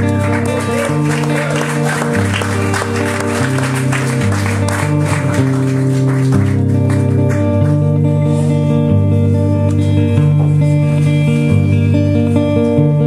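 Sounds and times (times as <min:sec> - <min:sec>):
plucked guitar notes: 0:00.0 - 0:13.0.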